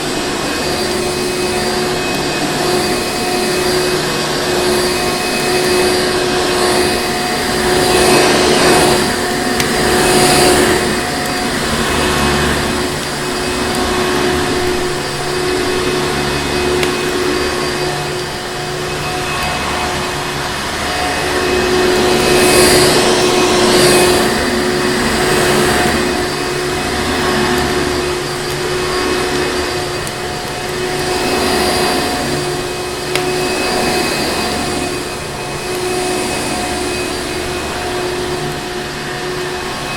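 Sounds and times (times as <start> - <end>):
vacuum cleaner motor: 0.0 - 39.9.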